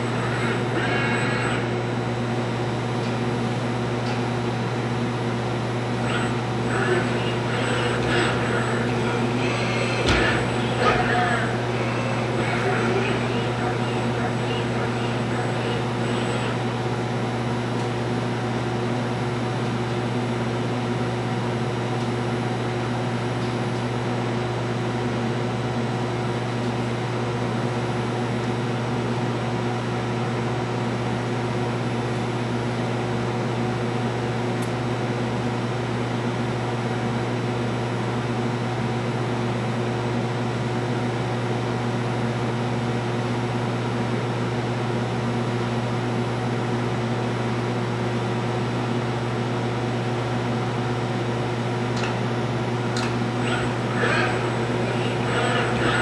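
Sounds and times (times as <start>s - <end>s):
machine hum with low drone: 0.0s - 56.0s.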